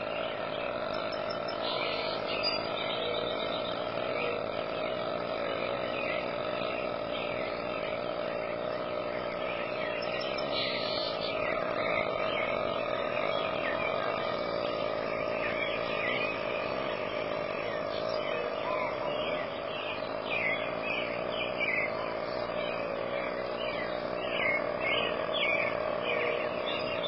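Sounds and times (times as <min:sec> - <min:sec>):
frogs and insects trilling: 0:00.0 - 0:27.0.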